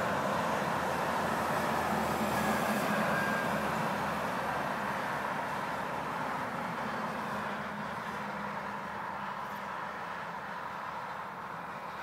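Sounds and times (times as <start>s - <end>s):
passing vehicle traffic: 0.0s - 12.0s.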